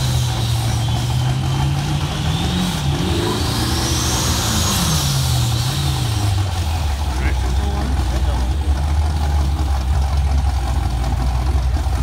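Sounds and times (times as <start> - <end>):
car engine idling and revving: 0.0 - 12.0
supercharger whine: 0.0 - 12.0.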